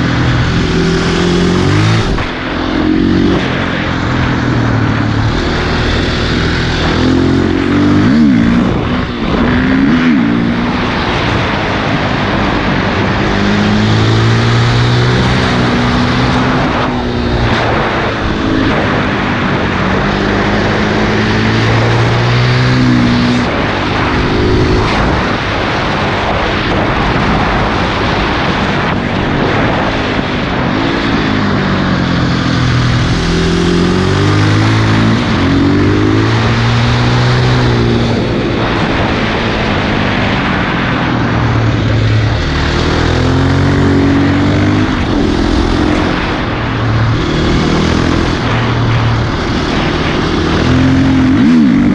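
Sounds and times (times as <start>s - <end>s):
motorcycle engine revving: 0.0s - 51.9s
steady rushing noise: 0.0s - 51.9s.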